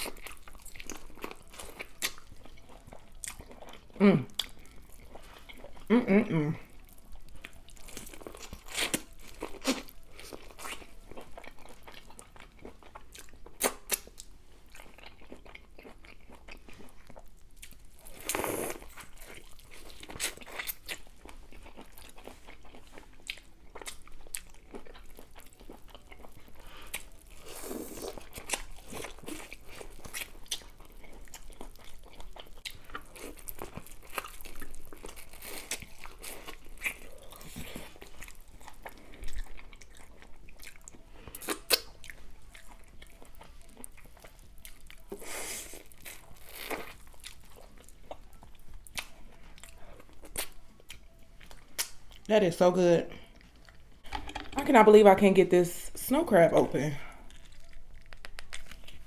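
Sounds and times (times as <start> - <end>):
chewing and biting seafood: 0.0 - 5.9, 6.7 - 52.3, 57.2 - 59.0.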